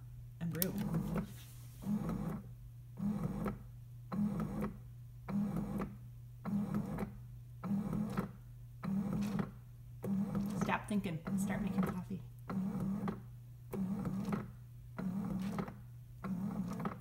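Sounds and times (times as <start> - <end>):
coffee maker pump pulsing: 0.4 - 17.0.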